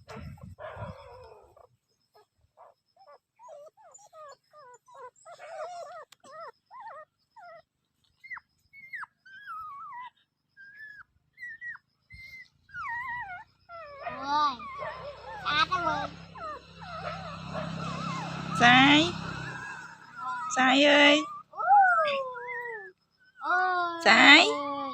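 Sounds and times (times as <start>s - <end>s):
dog whimpering: 0.0s - 24.9s.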